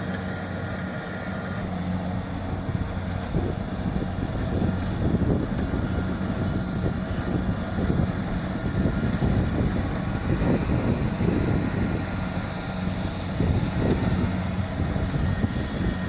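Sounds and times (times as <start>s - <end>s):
combine harvester engine drone: 0.0s - 16.0s
uneven low rumble: 1.6s - 16.0s.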